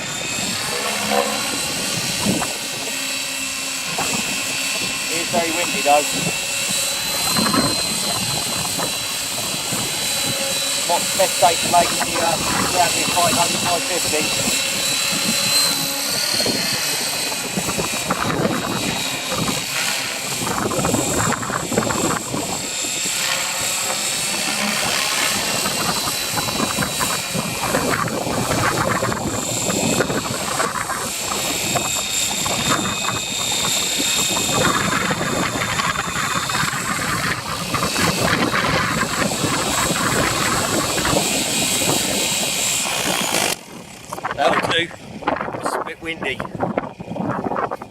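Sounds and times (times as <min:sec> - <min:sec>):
helicopter rotor noise: 0:00.0 - 0:47.9
rc helicopter motor whine: 0:00.0 - 0:47.9
wind buffeting microphone: 0:00.0 - 0:47.9.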